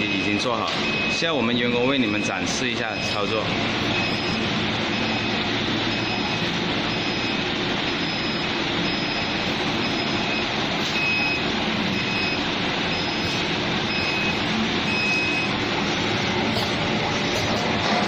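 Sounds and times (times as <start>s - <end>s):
factory machinery noise: 0.0s - 18.0s.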